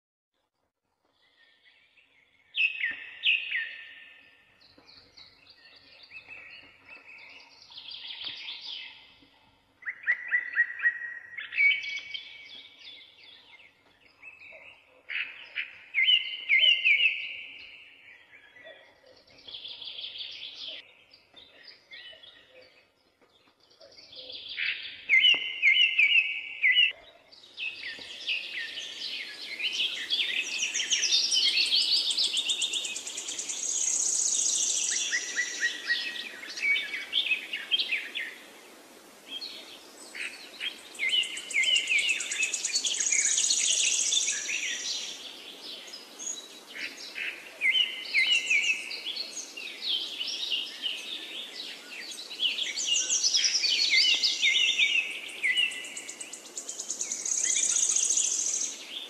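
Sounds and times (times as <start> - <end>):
birds chirping and warbling: 1.0 - 59.0.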